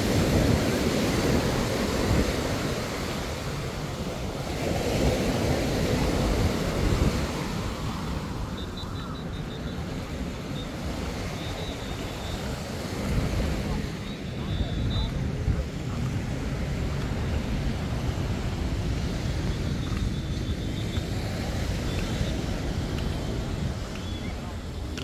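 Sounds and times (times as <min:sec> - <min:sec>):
surf washing onto beach: 0:00.0 - 0:25.0
wind buffeting microphone: 0:00.0 - 0:25.0.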